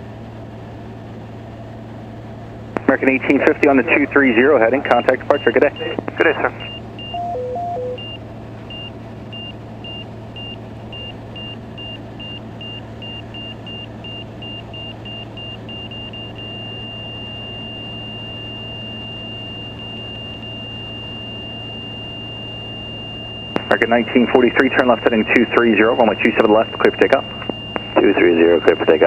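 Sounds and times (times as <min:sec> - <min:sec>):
aircraft engine drone: 0:00.0 - 0:29.0
stall warning tone beeping: 0:02.8 - 0:29.0.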